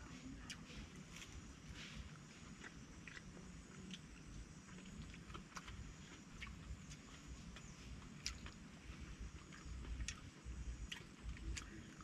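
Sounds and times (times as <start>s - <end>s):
person chewing with crunches: 0.0s - 12.0s.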